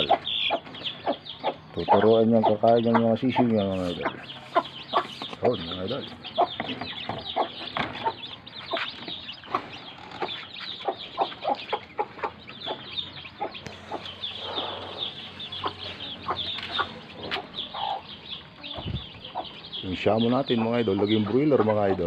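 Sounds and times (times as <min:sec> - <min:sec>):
chicks peeping: 0:00.0 - 0:22.0
hen clucking: 0:00.0 - 0:22.0.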